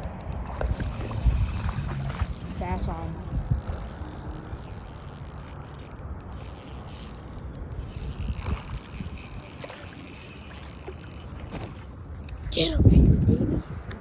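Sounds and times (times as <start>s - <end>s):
fishing reel whirring and clicking: 0.0s - 12.4s.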